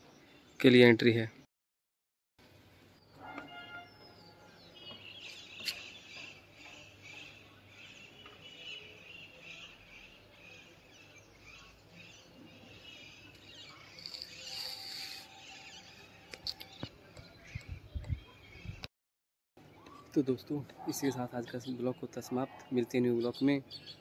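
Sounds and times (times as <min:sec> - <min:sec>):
small birds chirping: 0:02.6 - 0:18.9, 0:19.6 - 0:24.0.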